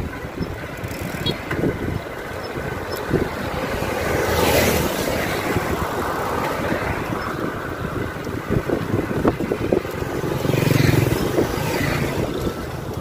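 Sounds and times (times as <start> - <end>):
bicycle road noise: 0.0 - 13.0
wind buffeting microphone: 0.0 - 13.0.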